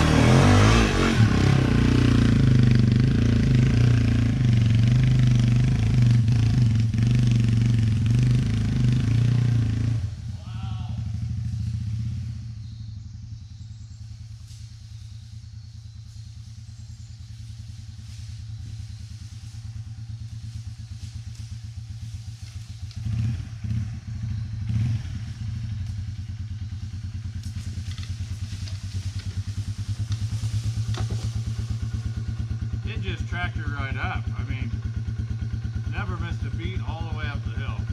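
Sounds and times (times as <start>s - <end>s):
motorcycle engine pulling under load: 0.0s - 10.3s, 11.0s - 12.8s, 17.4s - 37.9s.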